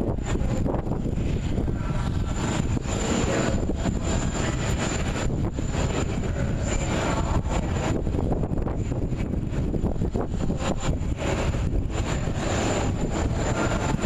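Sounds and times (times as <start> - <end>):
jet engines running: 0.0 - 14.0
wind buffeting microphone: 0.0 - 14.0.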